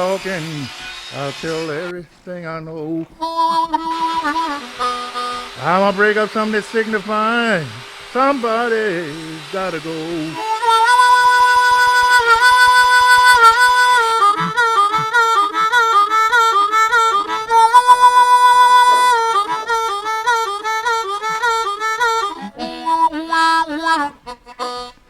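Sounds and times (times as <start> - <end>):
blues harmonica with bending notes: 0.0 - 25.0.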